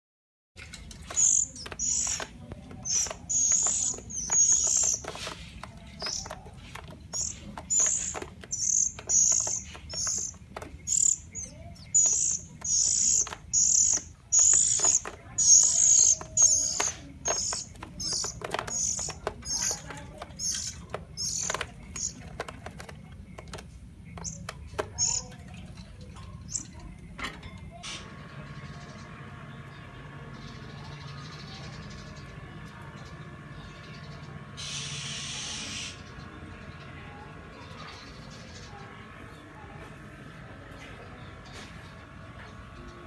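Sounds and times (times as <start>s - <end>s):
bird chirping: 0.6s - 43.0s.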